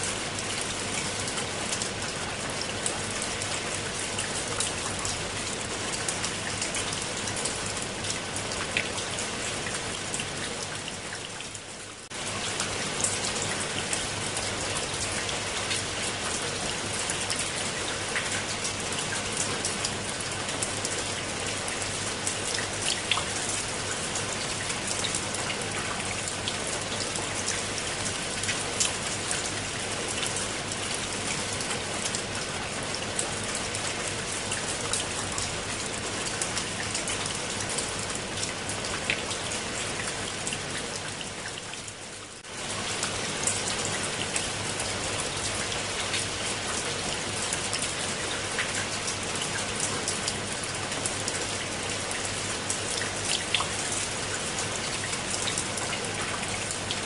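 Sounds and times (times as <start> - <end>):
rain on leaves and stone: 0.0 - 57.0.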